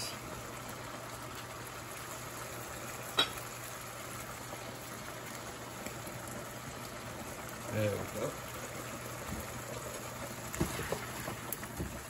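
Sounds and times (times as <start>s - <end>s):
broth simmering in a frying pan: 0.0s - 12.0s.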